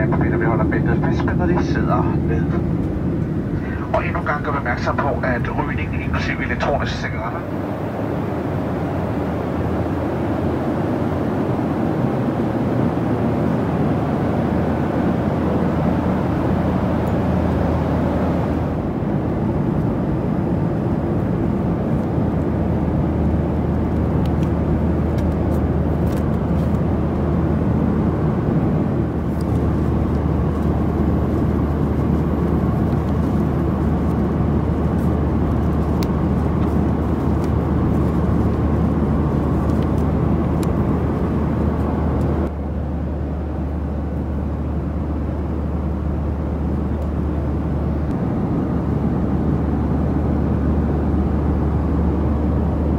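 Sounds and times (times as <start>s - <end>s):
airplane cabin air and engine rush: 0.0s - 52.9s
low hum: 0.0s - 52.9s.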